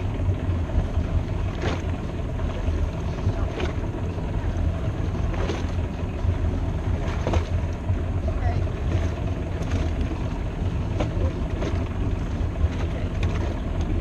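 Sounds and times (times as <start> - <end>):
boat engine idling: 0.0 - 14.0
water lapping against hull: 0.0 - 14.0.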